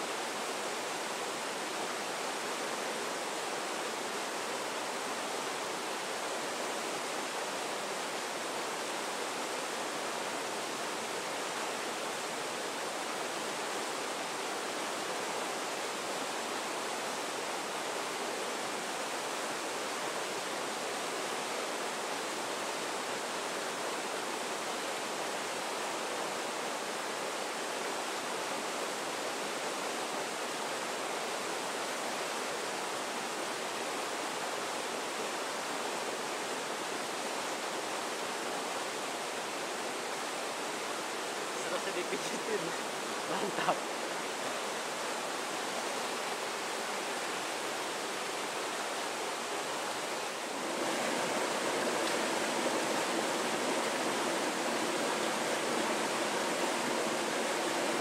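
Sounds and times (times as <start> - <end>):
river rapids rushing over boulders: 0.0 - 58.0.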